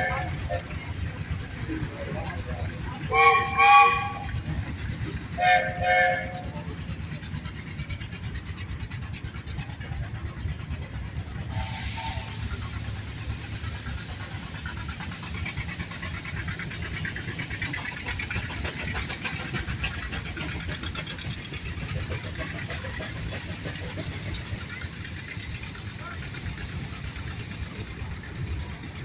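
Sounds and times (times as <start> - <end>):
steam engines rumbling: 0.0 - 29.0
steam hiss: 0.0 - 29.0.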